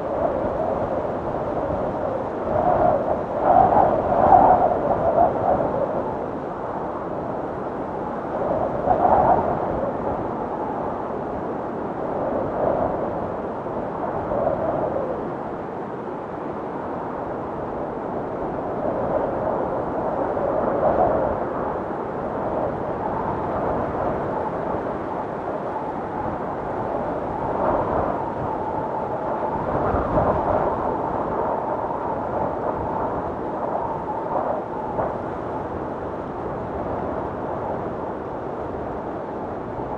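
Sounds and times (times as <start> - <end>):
blizzard wind gusting: 0.0 - 39.9.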